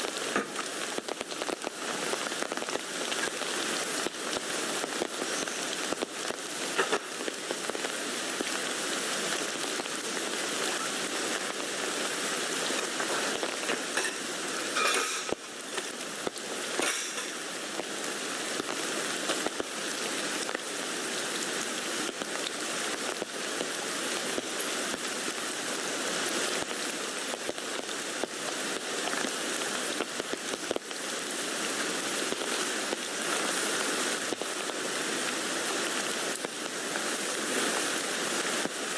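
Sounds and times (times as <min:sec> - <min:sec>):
rain falling on a tent: 0:00.0 - 0:38.9.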